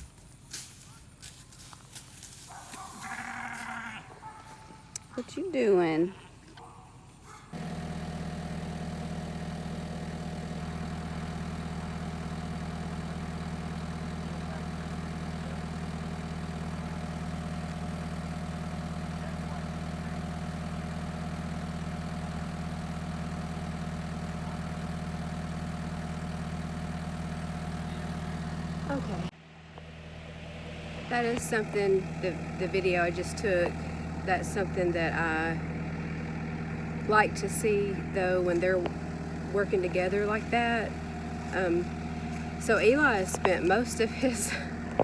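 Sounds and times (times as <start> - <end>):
diesel engine running steadily: 0.0 - 45.0.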